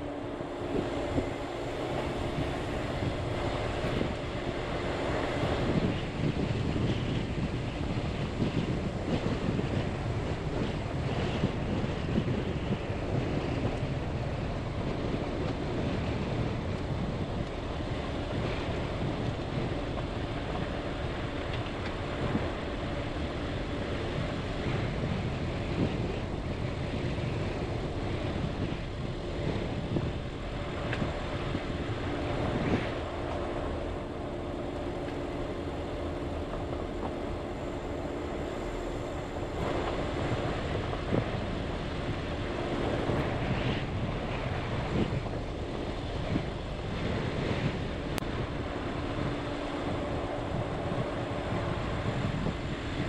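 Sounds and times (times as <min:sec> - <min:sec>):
steady hum: 0:00.0 - 0:53.0
wind noise: 0:00.0 - 0:53.0.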